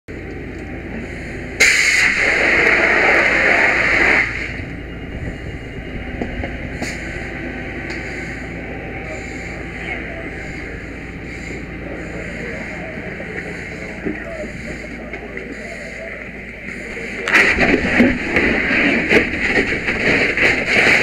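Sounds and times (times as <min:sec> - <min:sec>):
steady low rumble: 0:00.1 - 0:21.0.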